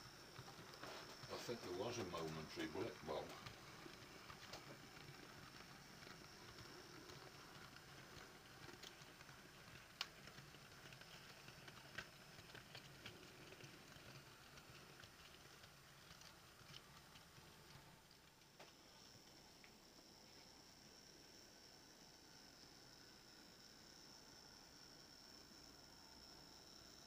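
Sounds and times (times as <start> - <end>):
model train wheels clicking: 0.0 - 27.0.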